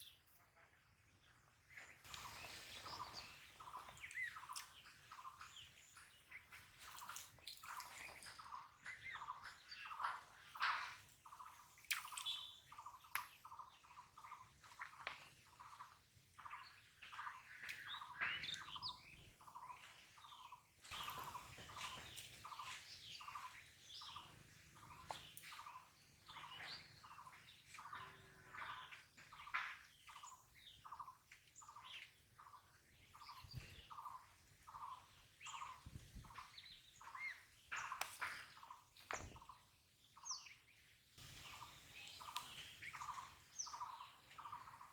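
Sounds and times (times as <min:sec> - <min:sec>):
birds chirping: 0:01.8 - 0:44.9.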